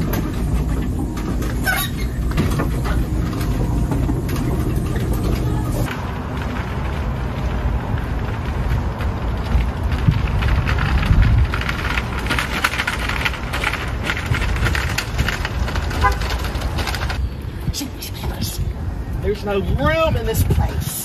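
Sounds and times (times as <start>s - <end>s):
low rumble: 0.0s - 20.8s
shopping cart wheels rattling on asphalt: 0.0s - 21.0s.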